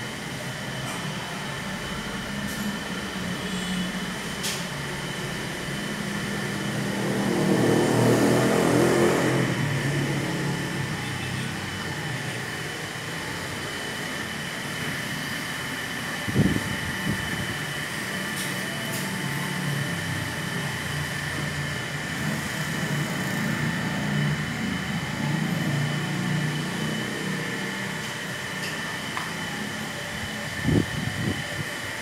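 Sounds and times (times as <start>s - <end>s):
machinery humming: 0.0s - 32.0s.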